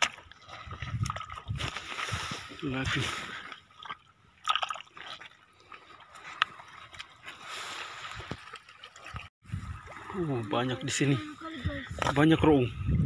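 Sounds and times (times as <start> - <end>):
hand stirring water and sand: 0.0 - 12.6.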